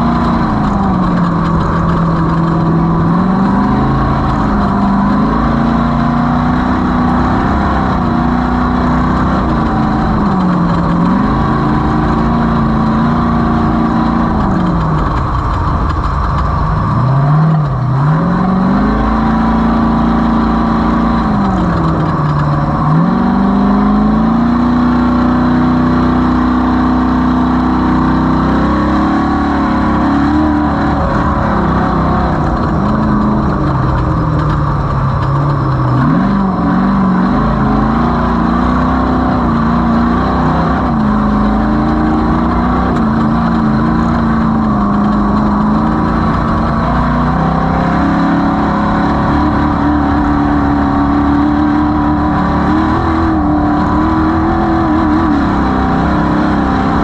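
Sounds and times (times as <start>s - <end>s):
race vehicle engine revving: 0.0s - 57.0s.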